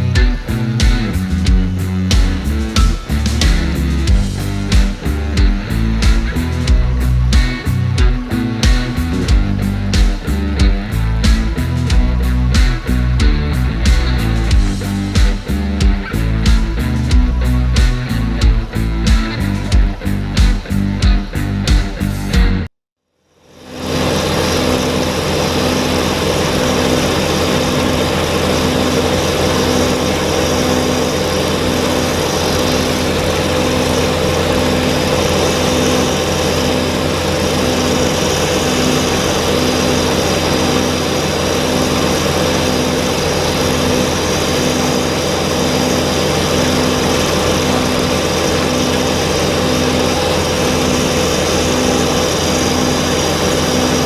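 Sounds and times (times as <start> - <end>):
diesel tractor engine running: 0.0 - 22.7, 23.6 - 54.0.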